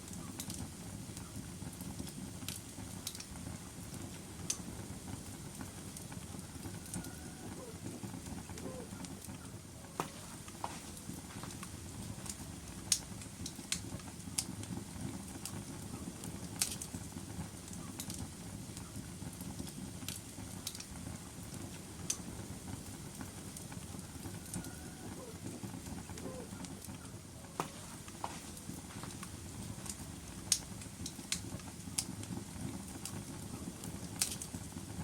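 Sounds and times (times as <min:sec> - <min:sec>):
fire rushing: 0:00.0 - 0:35.0
wood crackling and popping: 0:00.0 - 0:35.0.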